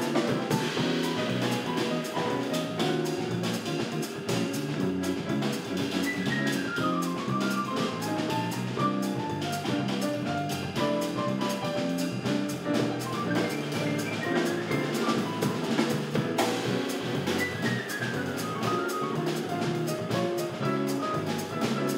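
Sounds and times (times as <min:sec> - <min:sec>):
drum kit cymbal and snare: 0:00.0 - 0:21.9
electric bass: 0:00.0 - 0:21.9
grand piano melody: 0:00.0 - 0:21.9.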